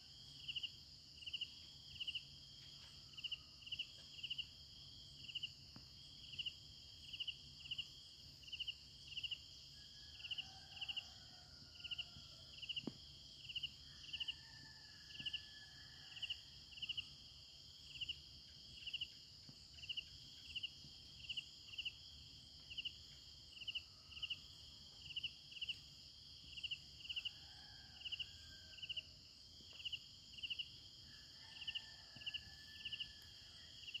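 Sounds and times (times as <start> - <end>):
crickets chirping: 0.0 - 34.0
high-pitched insect trill: 0.0 - 34.0.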